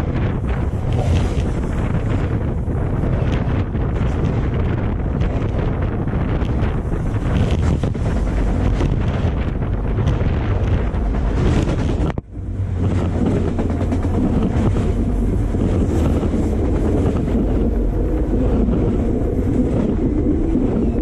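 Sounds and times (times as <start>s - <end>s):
freight train cars rumbling: 0.0s - 21.0s.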